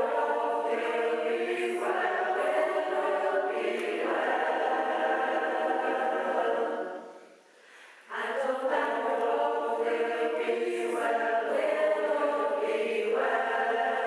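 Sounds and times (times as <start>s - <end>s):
choir singing sustained chords: 0.0s - 14.0s.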